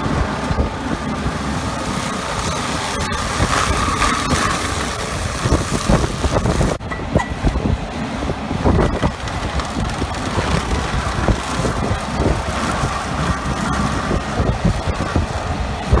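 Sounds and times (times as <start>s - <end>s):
tractor rumbling under load: 0.0s - 16.0s.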